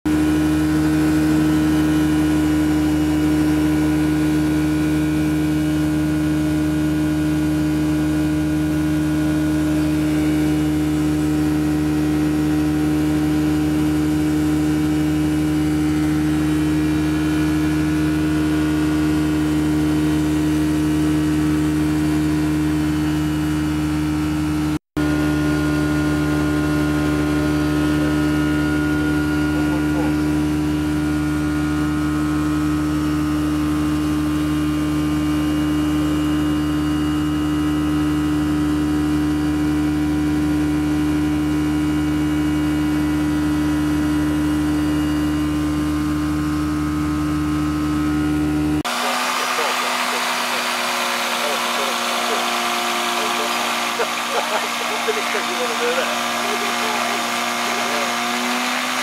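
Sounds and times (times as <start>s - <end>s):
light aircraft engine and propeller: 0.1s - 59.0s.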